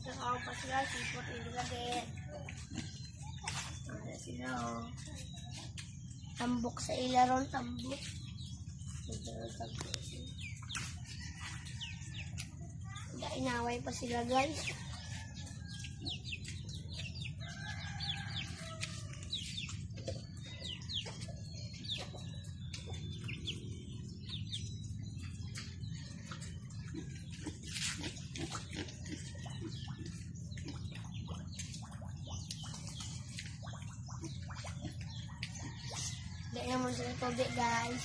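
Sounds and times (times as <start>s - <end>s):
pigs snuffling and grunting: 0.0s - 38.0s
small birds chirping: 0.0s - 38.0s.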